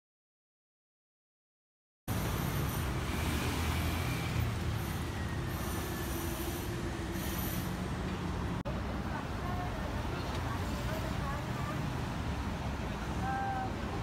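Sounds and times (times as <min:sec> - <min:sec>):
traffic rumble: 0:02.1 - 0:14.0.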